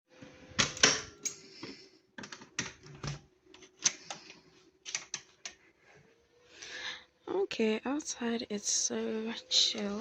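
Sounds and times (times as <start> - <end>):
faint steady hum: 0.1 - 10.0.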